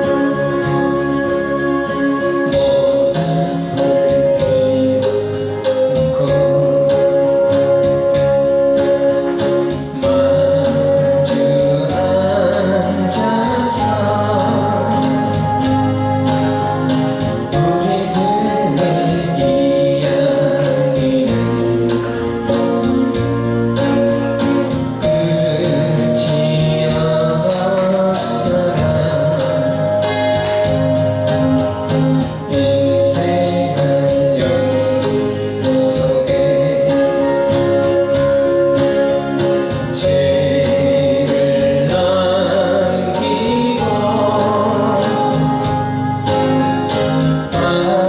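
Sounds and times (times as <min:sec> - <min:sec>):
acoustic guitar: 0:00.0 - 0:48.0
person singing folk song: 0:00.0 - 0:48.0.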